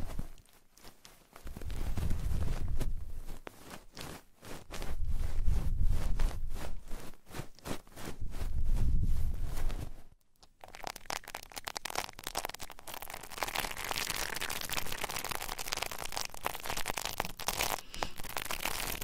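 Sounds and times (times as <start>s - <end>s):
rubbing and scratching on microphone: 0.0s - 10.2s, 11.6s - 19.0s.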